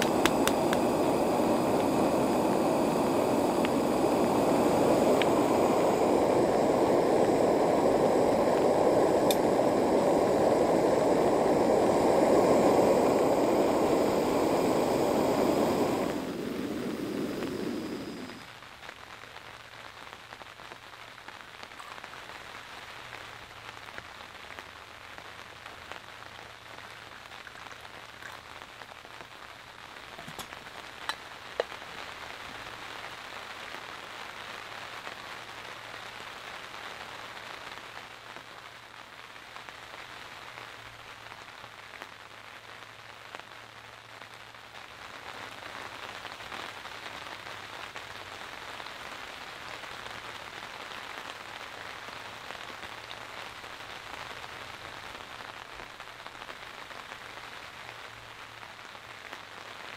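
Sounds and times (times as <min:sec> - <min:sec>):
rain pattering on tent fabric: 0:00.0 - 0:12.2, 0:12.8 - 0:59.9.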